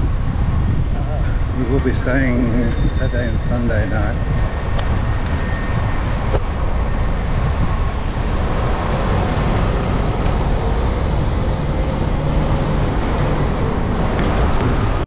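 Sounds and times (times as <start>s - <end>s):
city traffic road noise: 0.0s - 15.0s.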